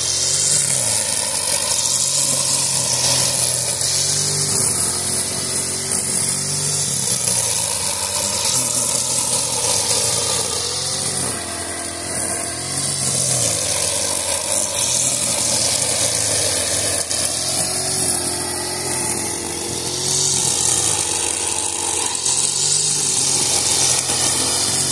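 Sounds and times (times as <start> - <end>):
brushcutter engine running: 0.0 - 24.9
hiss of cutting grass: 0.0 - 24.9.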